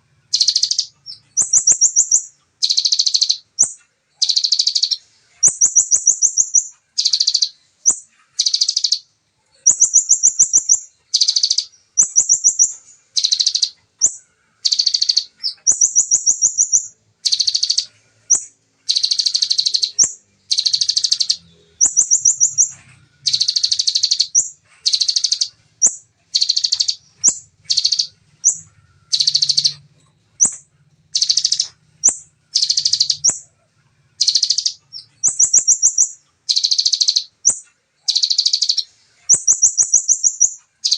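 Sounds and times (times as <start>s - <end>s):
songbird rapid buzzy trills: 0.0s - 40.9s.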